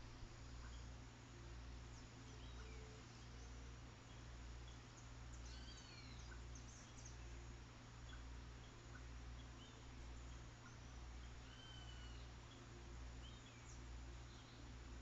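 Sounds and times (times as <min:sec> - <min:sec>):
faint birds chirping: 0:00.0 - 0:15.0
steady low hum: 0:00.0 - 0:15.0.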